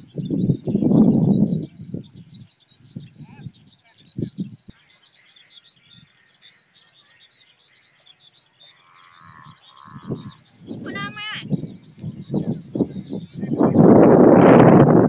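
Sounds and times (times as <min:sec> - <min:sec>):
high-pitched chirping chorus: 0:00.0 - 0:15.0
frogs croaking: 0:01.7 - 0:15.0.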